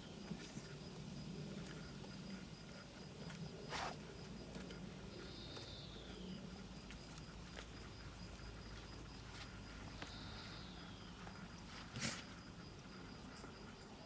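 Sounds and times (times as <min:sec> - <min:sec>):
insects chirping: 0:00.0 - 0:14.0
rustle: 0:00.0 - 0:14.0.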